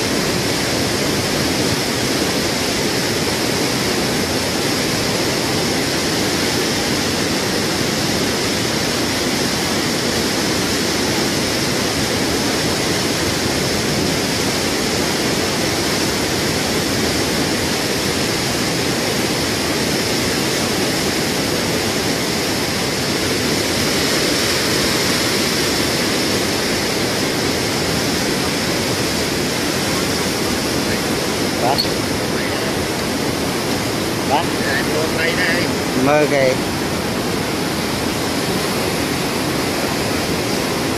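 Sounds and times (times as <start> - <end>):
fast-flowing river rushing: 0.0 - 40.9.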